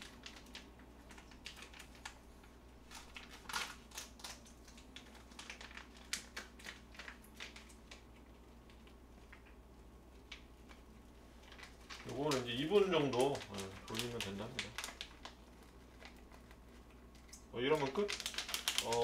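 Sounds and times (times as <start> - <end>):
plastic packet crinkling: 0.0 - 9.6, 10.2 - 19.0.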